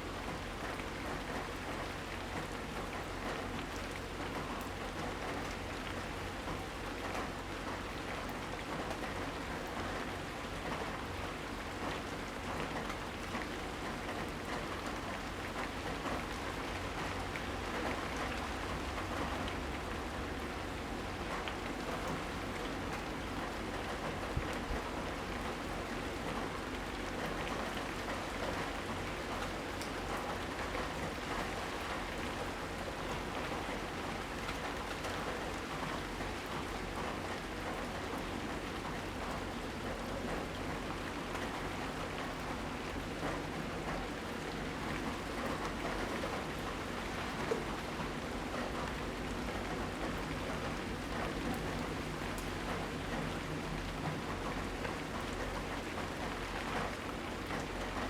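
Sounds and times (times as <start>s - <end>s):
rain falling: 0.0s - 58.0s
raindrops ticking on surfaces: 0.0s - 58.0s.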